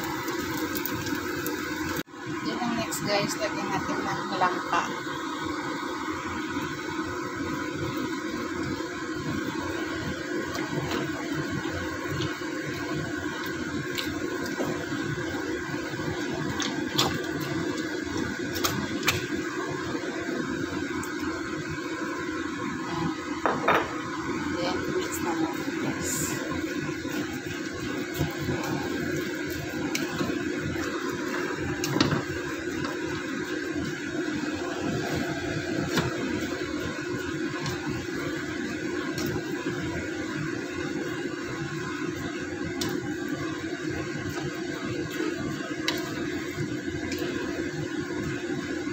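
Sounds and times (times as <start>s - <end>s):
liquid simmering and bubbling: 0.0s - 2.5s, 4.8s - 48.9s
steady hum: 0.0s - 48.9s.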